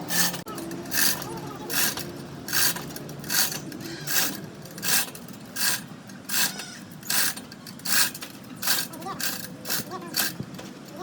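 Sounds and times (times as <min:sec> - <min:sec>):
hand tool rasping across metal: 0:00.0 - 0:10.4.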